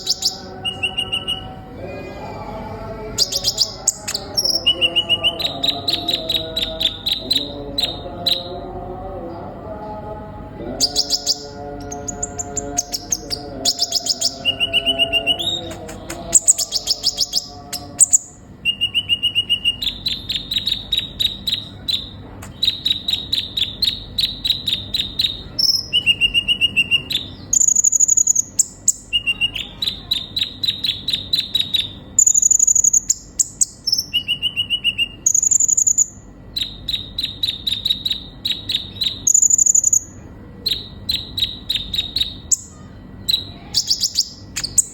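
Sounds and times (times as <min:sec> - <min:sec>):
sunbird singing: 0:00.0 - 0:09.6, 0:10.6 - 0:44.9.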